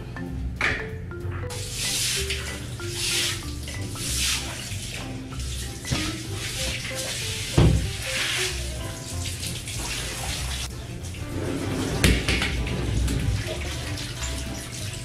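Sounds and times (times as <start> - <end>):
hose spraying water on tiles: 1.5 - 11.2, 11.8 - 15.0.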